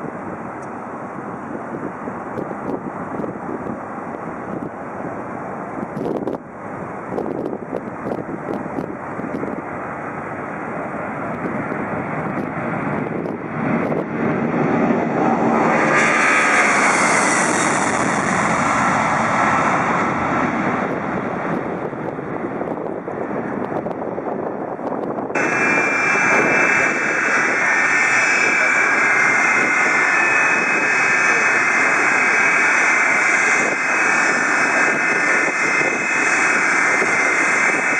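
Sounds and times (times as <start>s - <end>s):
high jet whine: 0.0s - 37.9s
jet engines roaring: 0.0s - 37.9s.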